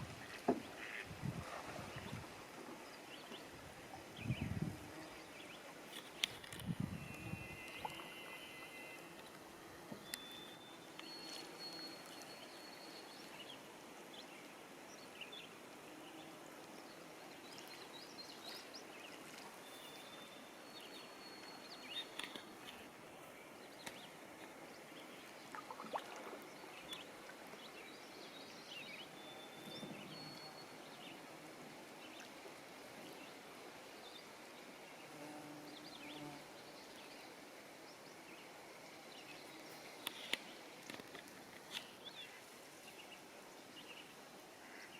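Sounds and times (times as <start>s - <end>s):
soft steady hiss: 0.0s - 44.9s.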